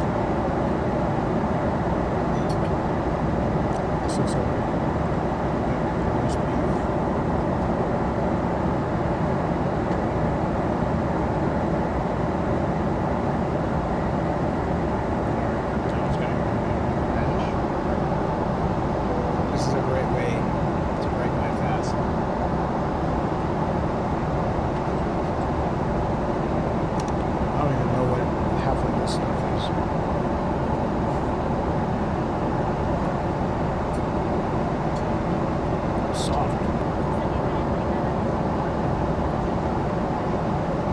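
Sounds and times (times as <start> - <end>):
airliner cabin noise: 0.0 - 40.9.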